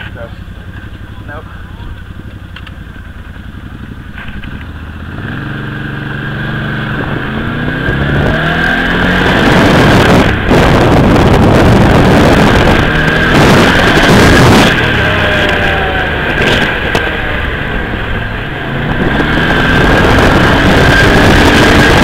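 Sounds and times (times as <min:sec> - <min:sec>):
engine accelerating hard: 0:03.6 - 0:22.0.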